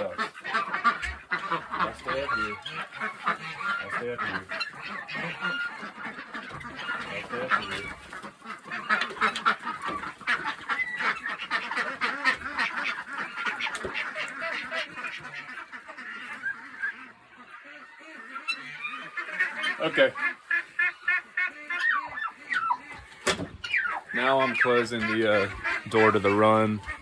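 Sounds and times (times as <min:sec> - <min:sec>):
ducks quacking and geese honking: 0:00.0 - 0:27.0.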